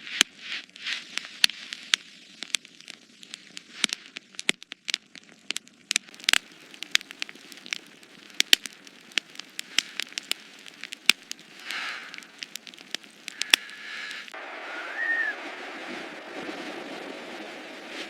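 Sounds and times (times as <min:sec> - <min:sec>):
low steady rustle: 0:00.0 - 0:18.0
sharp crackles and pops: 0:00.0 - 0:18.0.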